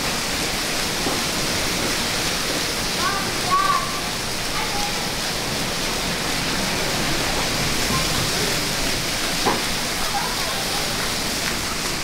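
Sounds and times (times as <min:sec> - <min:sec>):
splashing water from spray jets: 0:00.0 - 0:12.0.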